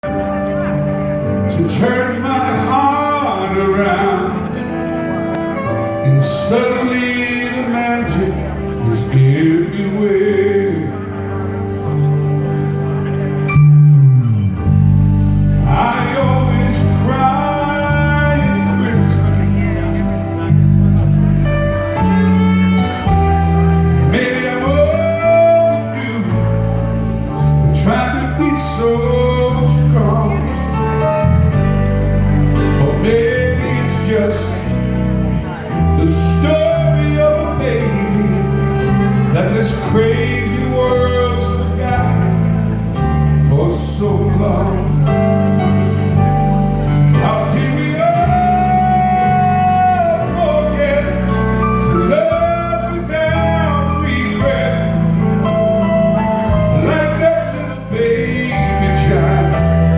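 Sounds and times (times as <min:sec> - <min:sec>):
person singing: 0:00.0 - 0:11.6, 0:15.6 - 0:59.9
guitar accompaniment: 0:00.0 - 0:59.9
song with held bass notes: 0:00.0 - 0:59.9.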